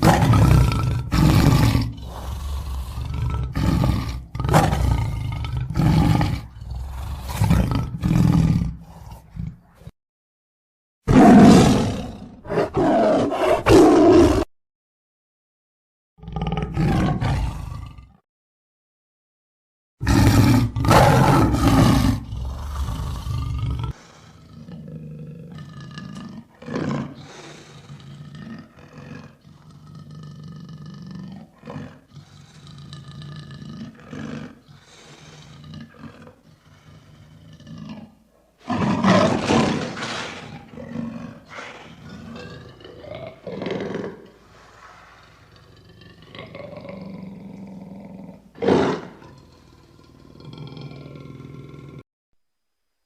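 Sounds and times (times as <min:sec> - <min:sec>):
lion roaring: 0:00.0 - 0:09.9, 0:11.1 - 0:14.5, 0:16.2 - 0:18.2, 0:20.0 - 0:52.0.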